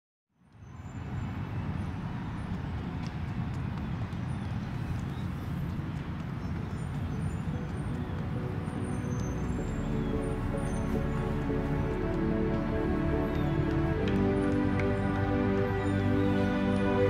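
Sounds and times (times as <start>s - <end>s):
low rumbling noise: 1.4s - 17.0s.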